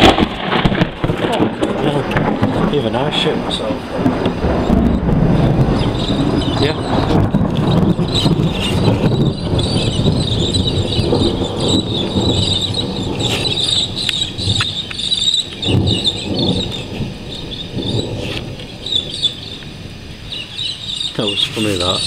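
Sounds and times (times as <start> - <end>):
loud thunderclap: 0.0 - 21.2
birds chattering: 0.0 - 22.0
thunder rumbling: 0.0 - 22.0.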